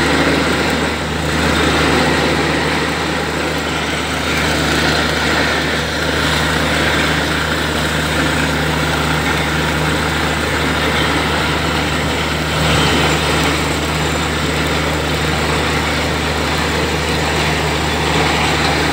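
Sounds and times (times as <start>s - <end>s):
drilling rig engine humming: 0.0s - 18.9s
muddy water gushing: 0.0s - 18.9s.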